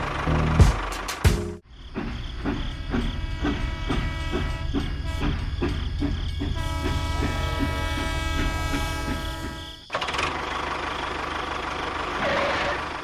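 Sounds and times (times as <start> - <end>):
electronic toy train chugging: 2.0 - 13.0.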